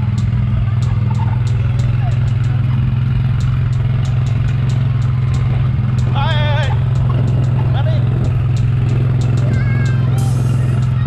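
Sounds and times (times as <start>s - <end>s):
ride carts clicking and rattling: 0.0s - 11.0s
vehicle engine drone: 0.0s - 11.0s.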